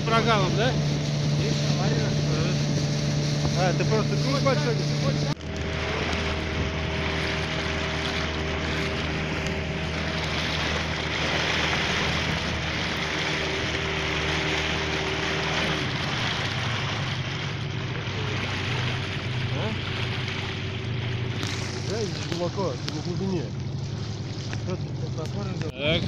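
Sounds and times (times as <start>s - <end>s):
outboard motor running at speed: 0.0s - 26.0s
water rushing along hull: 0.0s - 26.0s.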